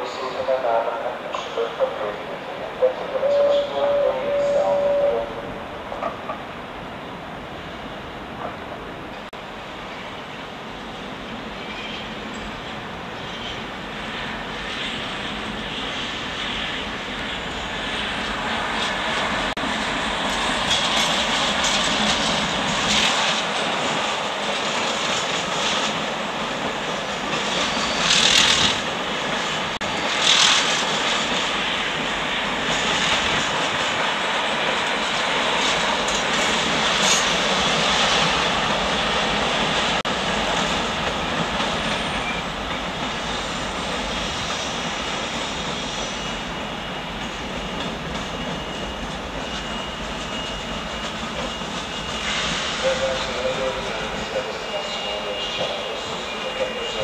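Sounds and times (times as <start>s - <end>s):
train running: 0.0s - 57.0s.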